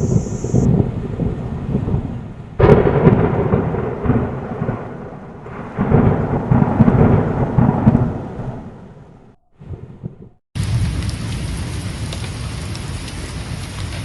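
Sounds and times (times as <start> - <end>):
heavy rain: 0.0 - 8.7, 10.6 - 14.0
low rumbling thunder: 0.0 - 14.0.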